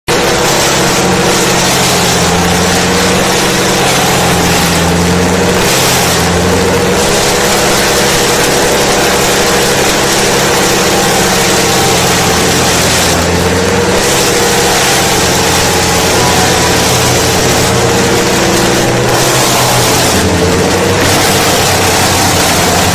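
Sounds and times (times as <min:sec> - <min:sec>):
chipper engine drone: 0:00.0 - 0:22.9
wood being chipped: 0:00.1 - 0:22.9.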